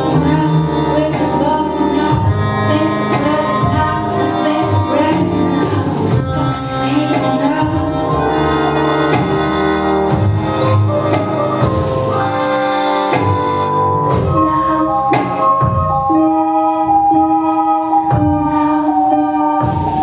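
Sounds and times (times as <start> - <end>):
music with steady beat: 0.0 - 20.0.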